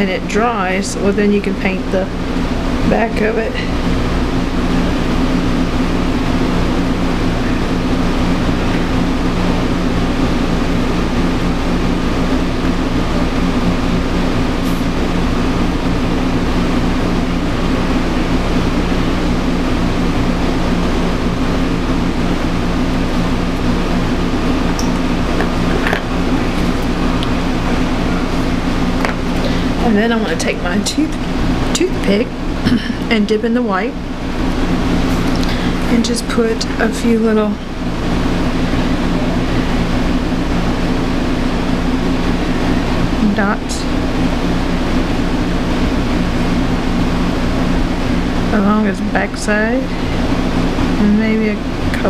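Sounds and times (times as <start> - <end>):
machine hum with rushing noise: 0.0 - 52.0.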